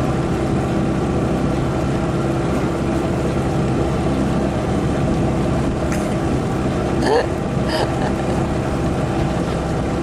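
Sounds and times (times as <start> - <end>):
motorboat engine hum: 0.0 - 10.0
rush of water noise: 0.0 - 10.0.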